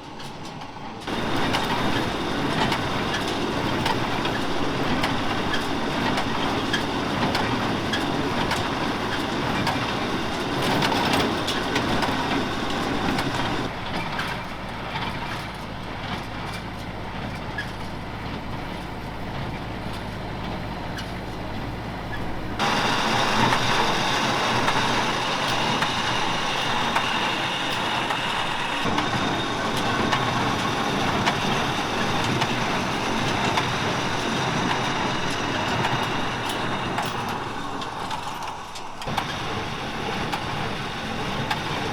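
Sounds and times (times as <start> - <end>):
tractor engine running: 0.0 - 41.9
baler mechanical clatter: 0.2 - 41.9.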